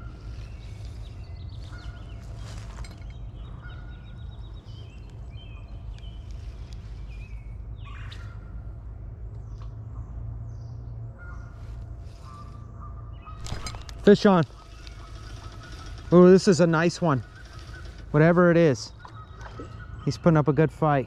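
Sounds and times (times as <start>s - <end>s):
steady low rumble: 0.0s - 18.7s
birds calling and chirping: 0.0s - 21.0s.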